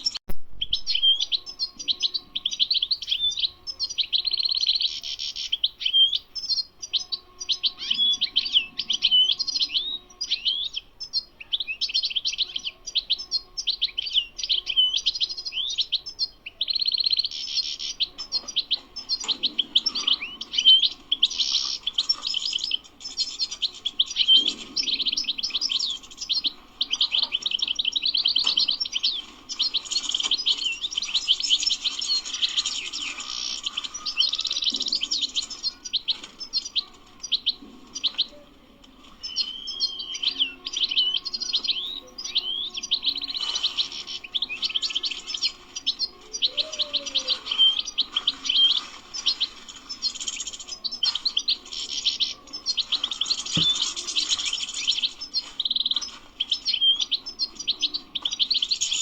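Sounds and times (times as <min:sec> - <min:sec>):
bird twittering and trilling: 0:00.0 - 0:59.0.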